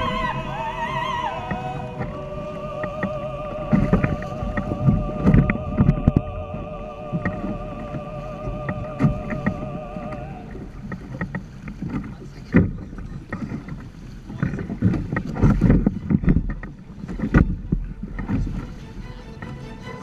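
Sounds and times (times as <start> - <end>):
water slapping against hull: 0.0 - 20.0
wind buffeting microphone: 0.0 - 20.0.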